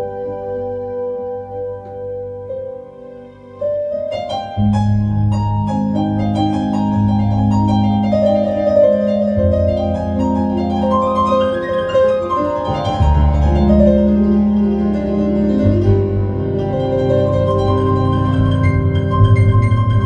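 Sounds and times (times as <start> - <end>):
solo piano: 0.0 - 20.0.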